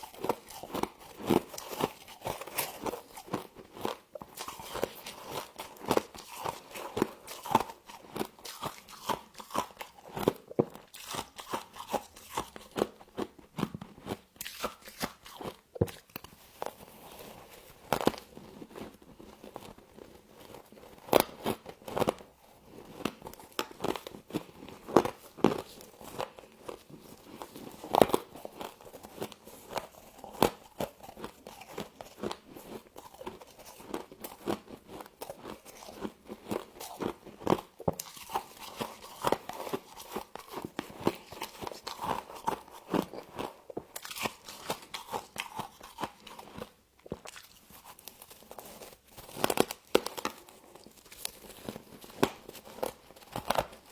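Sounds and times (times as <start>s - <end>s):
biting and chewing frost: 0.0s - 53.9s.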